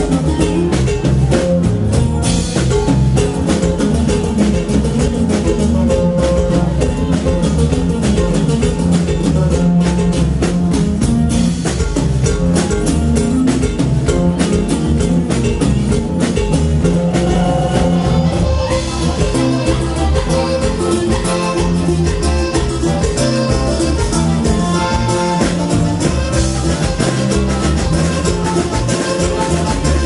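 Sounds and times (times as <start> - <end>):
accordion: 0.0 - 30.0
acoustic guitar: 0.0 - 30.0
drums: 0.0 - 30.0
electric bass: 0.0 - 30.0
live band playing: 0.0 - 30.0.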